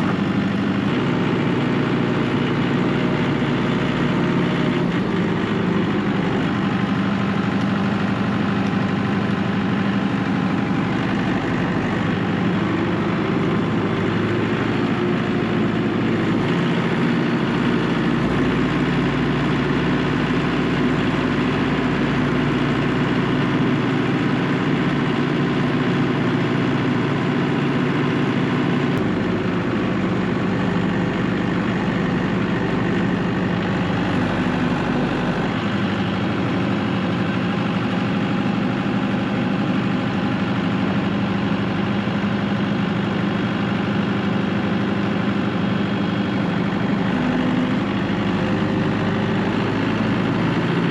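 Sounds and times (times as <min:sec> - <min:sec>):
large engine idling: 0:00.0 - 0:50.9.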